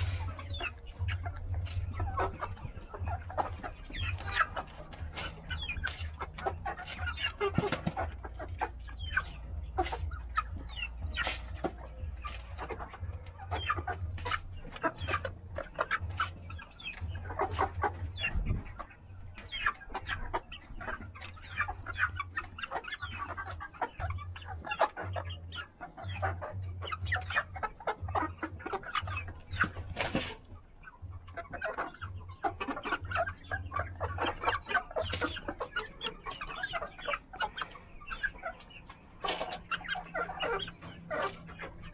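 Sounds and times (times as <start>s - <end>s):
hens clucking: 0.0s - 41.9s.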